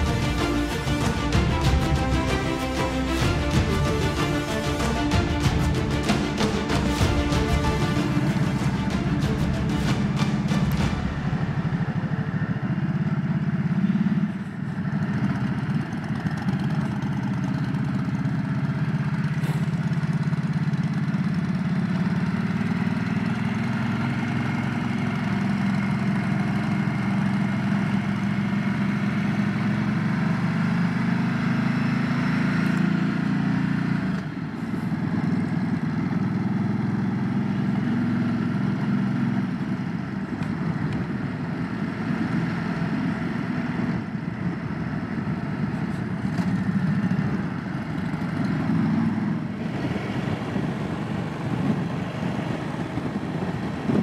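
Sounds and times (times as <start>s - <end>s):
motorcycle engine running: 3.2s - 54.0s.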